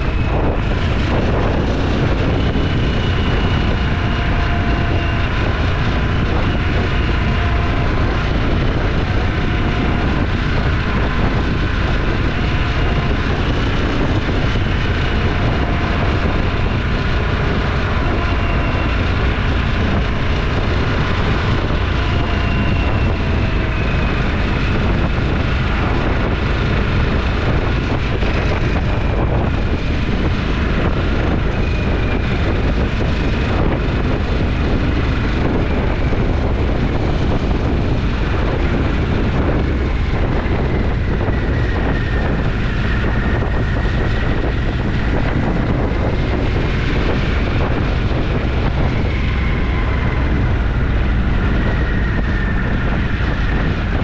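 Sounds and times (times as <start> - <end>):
faint whine: 0.0 - 54.0
wind buffeting on microphone: 0.0 - 54.0.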